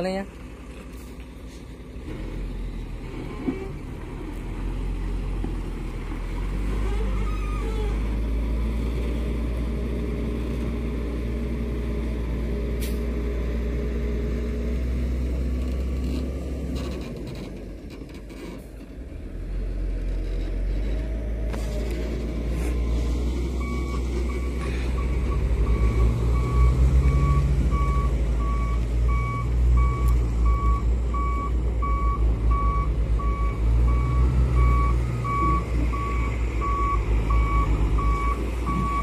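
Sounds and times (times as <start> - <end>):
truck diesel engine droning: 0.0 - 39.0.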